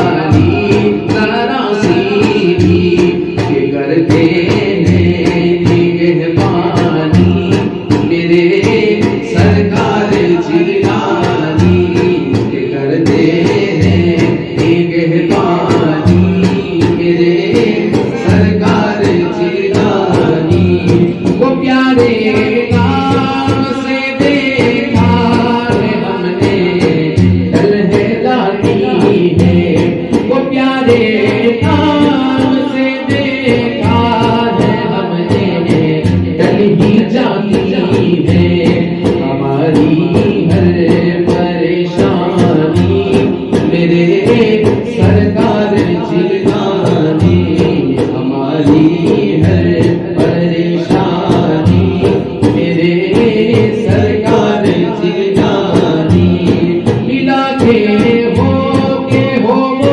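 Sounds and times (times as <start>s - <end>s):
man singing devotional song: 0.0s - 59.9s
steady beat: 0.0s - 59.9s
voices singing along: 0.0s - 59.9s.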